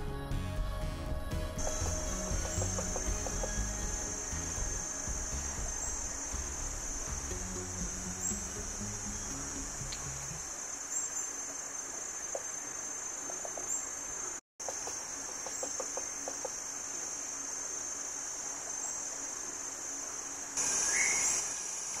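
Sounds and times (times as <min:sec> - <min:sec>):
insects droning: 0:01.6 - 0:22.0.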